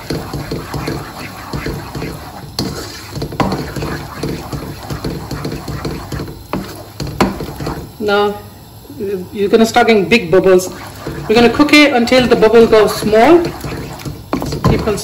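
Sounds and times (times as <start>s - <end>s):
wooden spoon knocking on pan: 0.0s - 7.9s, 10.8s - 15.0s
syrup bubbling and sizzling: 0.0s - 8.3s, 9.7s - 15.0s.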